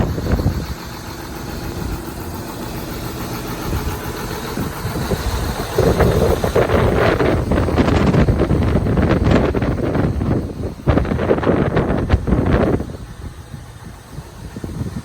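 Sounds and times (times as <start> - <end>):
tractor diesel engine idling: 0.0 - 15.0
wind buffeting microphone: 0.0 - 15.0.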